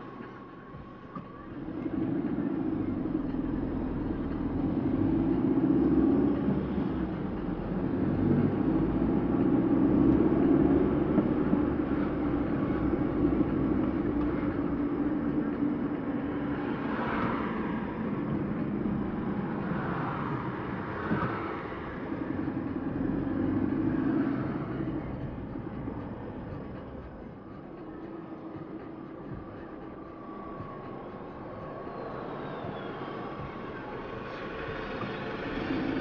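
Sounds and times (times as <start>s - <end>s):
car engine: 0.0s - 36.0s.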